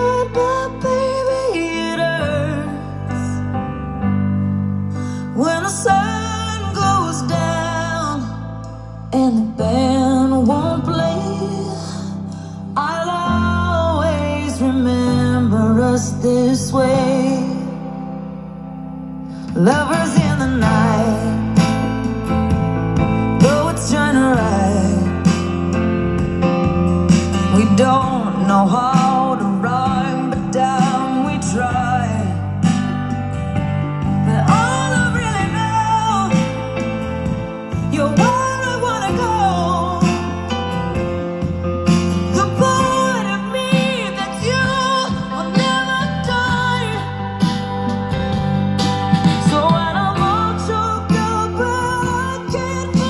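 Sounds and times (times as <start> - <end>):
song with singing and guitar: 0.0 - 53.0.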